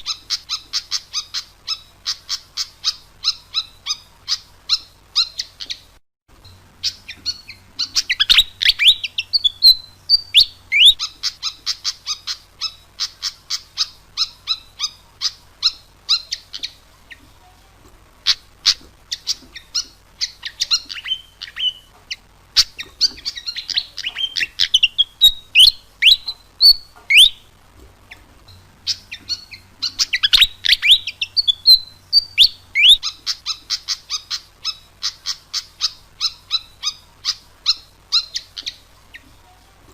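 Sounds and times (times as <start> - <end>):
bird singing high chirps: 0.0 - 17.2, 18.2 - 27.5, 28.5 - 39.3.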